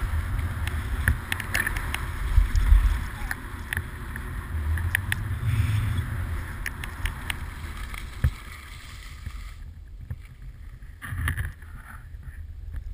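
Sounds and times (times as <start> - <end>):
skis scraping over snow: 0.0 - 12.4
wind buffeting microphone: 0.0 - 12.9.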